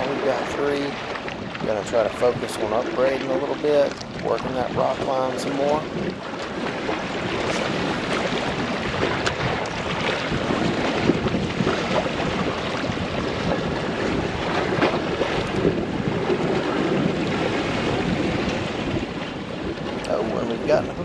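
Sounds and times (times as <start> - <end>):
water lapping against kayak: 0.0 - 21.0
wind buffeting microphone: 0.0 - 21.0.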